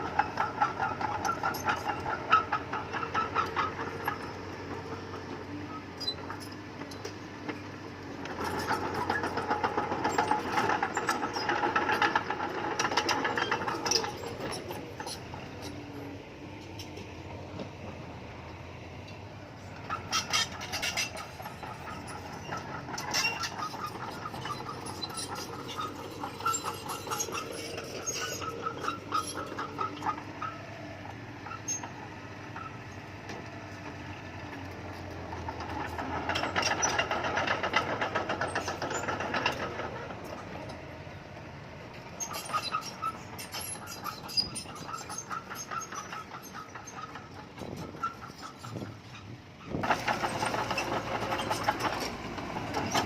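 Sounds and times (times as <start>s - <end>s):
crawler tracks clanking and squeaking: 0.0s - 53.0s
diesel engine under load: 0.0s - 53.0s.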